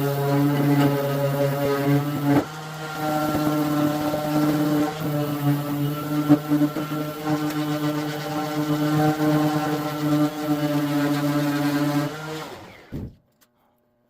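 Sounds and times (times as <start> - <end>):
power sander humming: 0.0 - 13.1.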